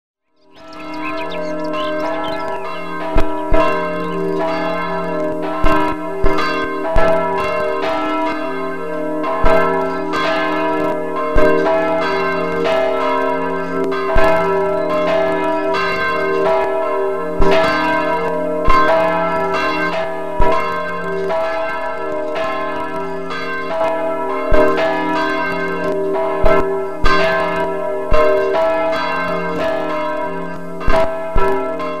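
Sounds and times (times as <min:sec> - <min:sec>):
church bells pealing: 0:00.4 - 0:32.0.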